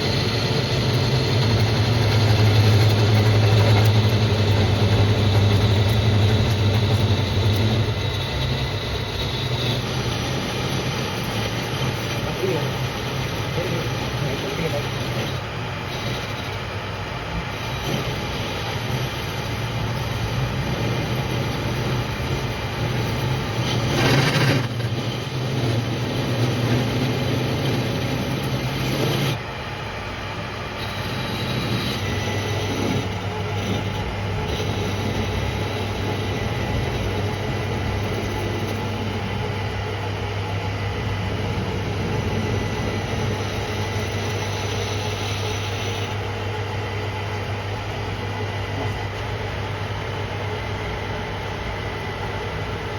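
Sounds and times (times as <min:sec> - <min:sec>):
metal lathe running: 0:00.0 - 0:52.9.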